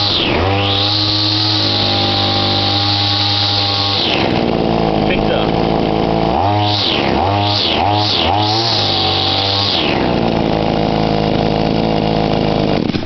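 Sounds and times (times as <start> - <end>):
line trimmer engine revving: 0.0 - 13.0.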